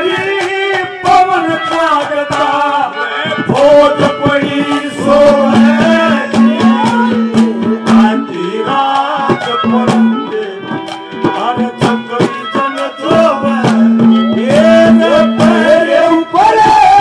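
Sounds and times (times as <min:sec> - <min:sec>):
hand drum strokes: 0:00.0 - 0:17.0
harmonium melody: 0:00.0 - 0:17.0.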